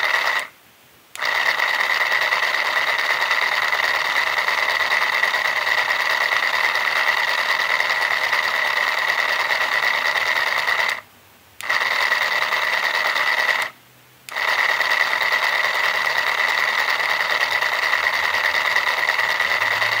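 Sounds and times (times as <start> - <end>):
motor driving plastic gears whirring: 0.0 - 0.5, 1.2 - 11.0, 11.6 - 20.0.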